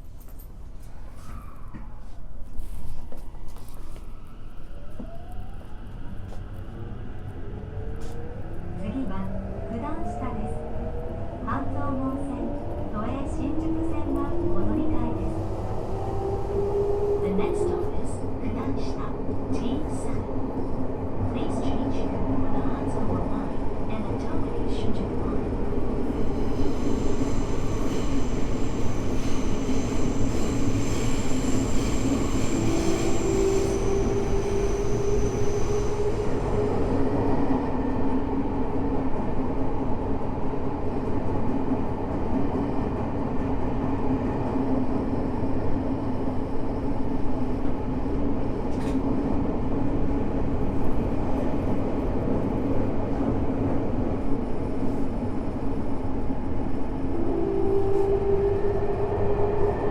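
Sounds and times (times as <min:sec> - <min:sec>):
subway motors whining: 0:00.6 - 0:59.9.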